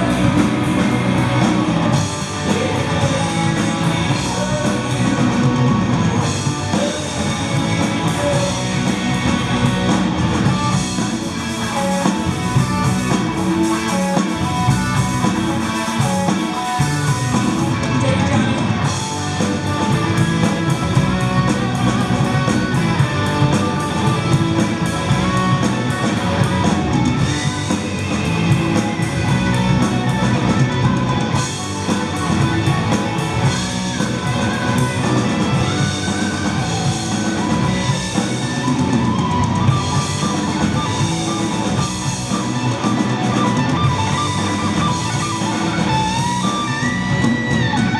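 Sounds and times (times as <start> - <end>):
rock band playing: 0.0 - 47.9.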